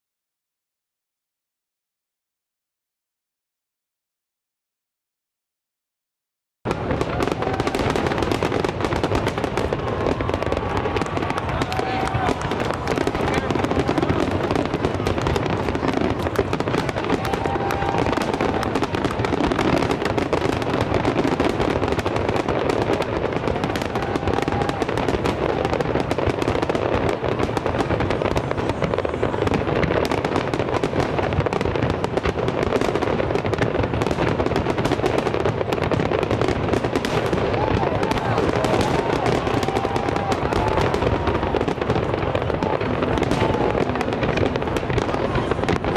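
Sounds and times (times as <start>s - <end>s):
fireworks bursting in a barrage: 6.7s - 45.9s.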